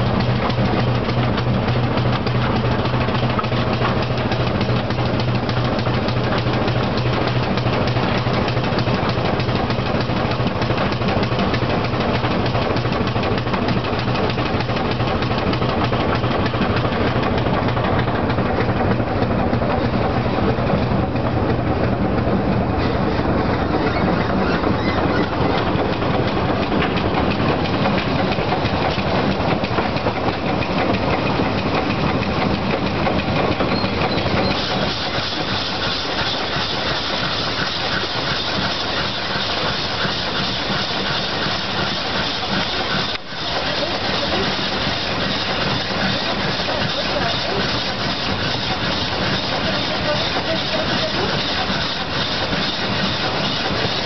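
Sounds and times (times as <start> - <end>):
steam locomotive clatter: 0.0 - 54.0.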